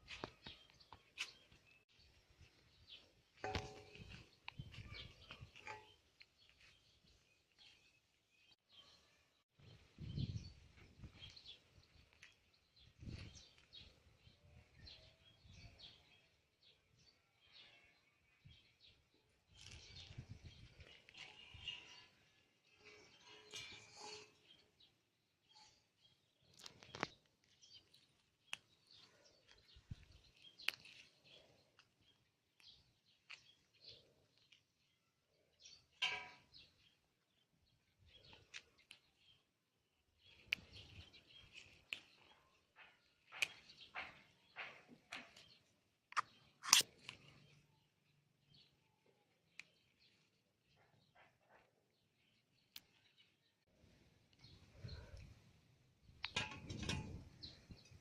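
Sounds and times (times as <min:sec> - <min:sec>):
outdoor ambience: 0:00.0 - 0:58.0.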